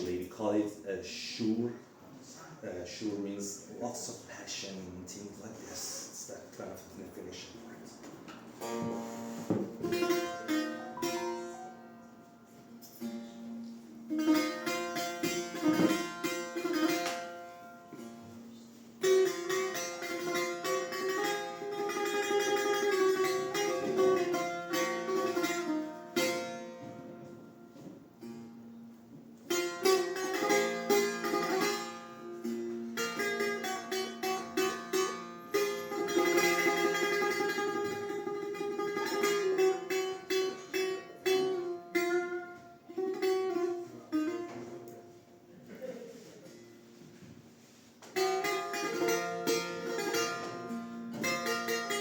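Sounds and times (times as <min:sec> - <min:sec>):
plucked long-necked lute: 0:08.3 - 0:52.0.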